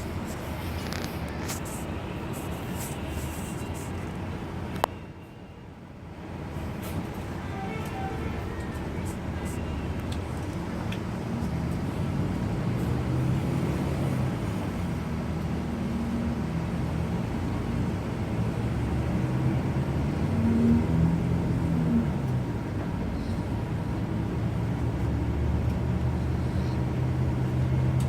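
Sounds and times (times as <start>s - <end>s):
tyre and road noise: 0.0s - 5.0s, 6.2s - 28.0s
bus diesel engine running: 0.0s - 28.0s.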